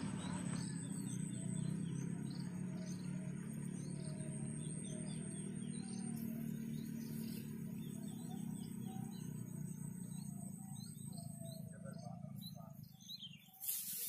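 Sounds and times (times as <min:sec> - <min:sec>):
small birds chirping: 0:00.0 - 0:14.0
steady low drone: 0:00.0 - 0:14.0.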